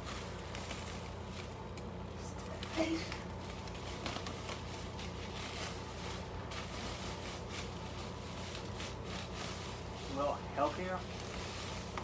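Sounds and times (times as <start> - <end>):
electric fan whirring: 0.0 - 12.0
rustling of clothes and bags: 0.0 - 12.0.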